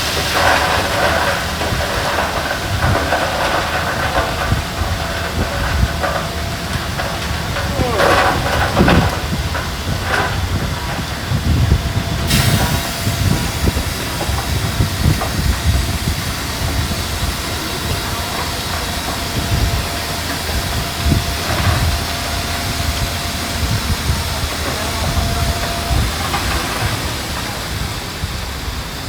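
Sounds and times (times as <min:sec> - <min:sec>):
diesel machinery engine rumble: 0:00.0 - 0:29.0.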